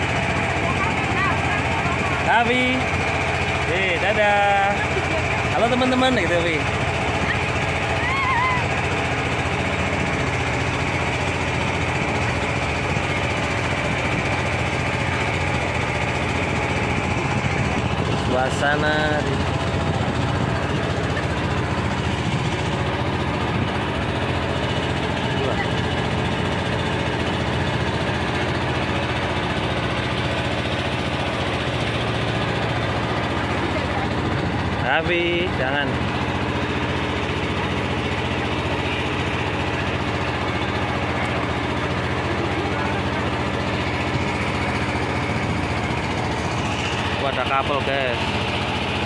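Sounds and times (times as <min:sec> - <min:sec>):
boat engine chugging: 0:00.0 - 0:49.0.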